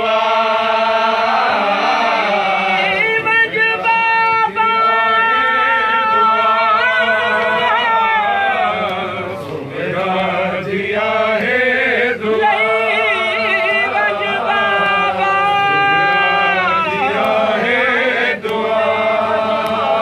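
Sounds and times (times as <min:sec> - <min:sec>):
voices chanting a lament: 0:00.0 - 0:20.0.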